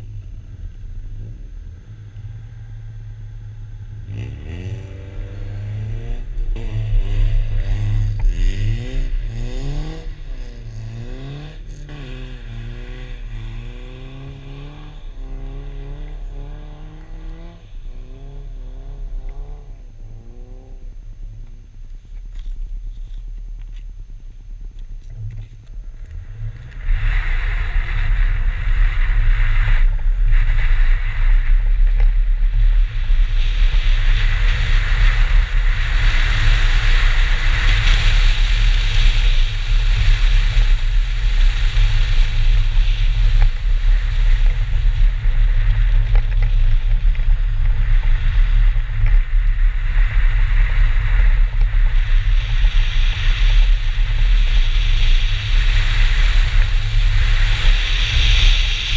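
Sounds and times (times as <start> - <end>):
race car engine: 0.0 - 58.9.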